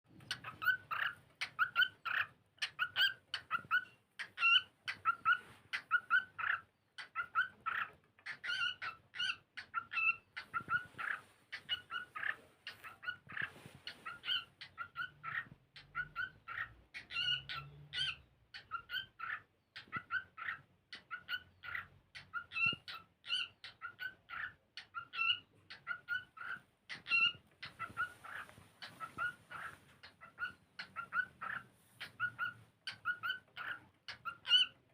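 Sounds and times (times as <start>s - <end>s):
cockatiel whistled chirps: 0.2s - 34.8s.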